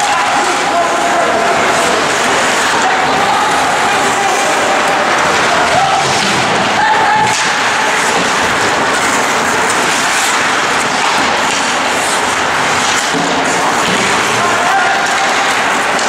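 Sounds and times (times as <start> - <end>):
skates scraping on ice: 0.0 - 16.0
spectator voices: 0.0 - 16.0.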